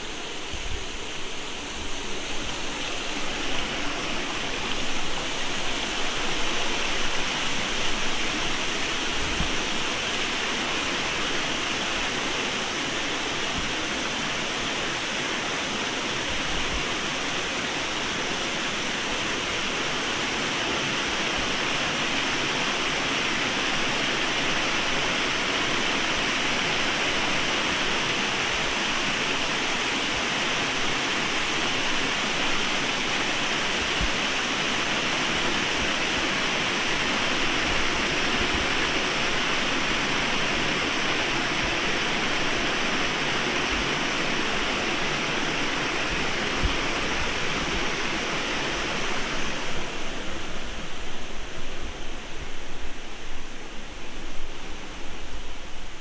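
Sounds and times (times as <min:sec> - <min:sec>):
waterfall pouring over rocks: 0:00.0 - 0:56.0.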